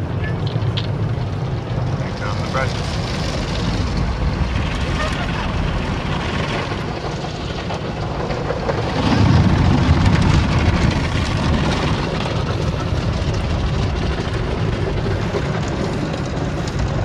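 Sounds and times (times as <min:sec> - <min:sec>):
steady rumble: 0:00.0 - 0:17.0
car wash brushes scrubbing: 0:02.0 - 0:17.0.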